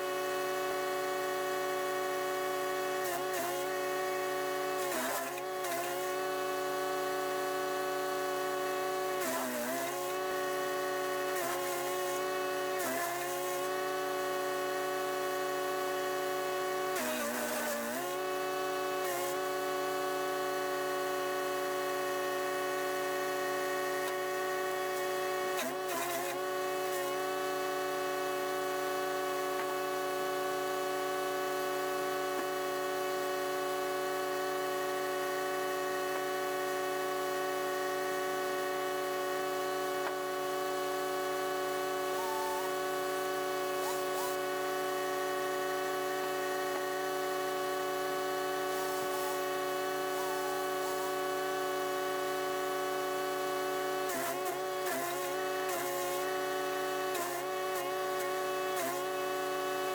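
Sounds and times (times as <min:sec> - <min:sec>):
wood chipper engine running: 0:00.0 - 0:30.3, 0:37.4 - 0:59.9.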